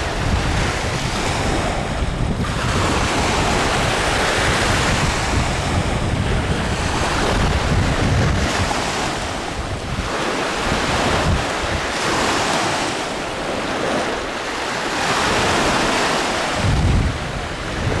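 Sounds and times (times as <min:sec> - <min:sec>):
small waves washing: 0:00.0 - 0:18.0
wind buffeting microphone: 0:00.0 - 0:18.0.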